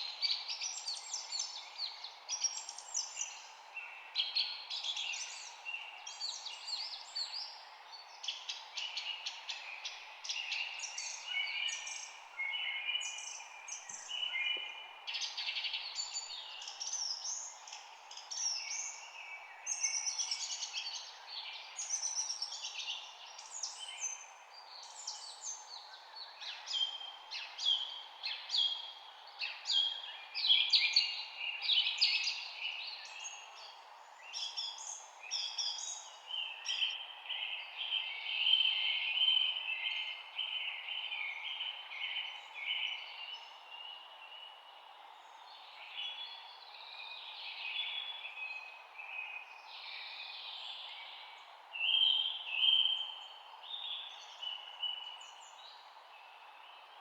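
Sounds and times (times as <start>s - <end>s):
faint background hiss: 0.0s - 57.0s
songbirds chirping and trilling: 0.0s - 57.0s.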